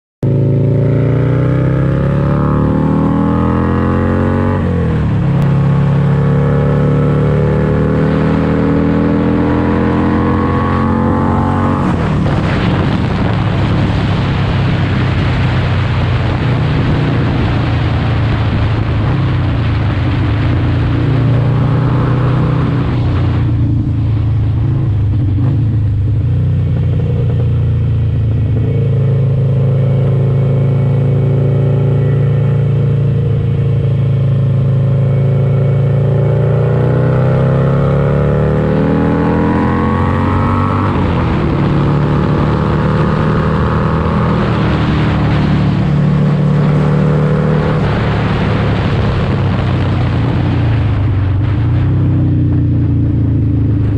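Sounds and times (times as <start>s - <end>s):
motorcycle engine running: 0.2s - 53.9s
heavy wind rush: 7.9s - 53.9s.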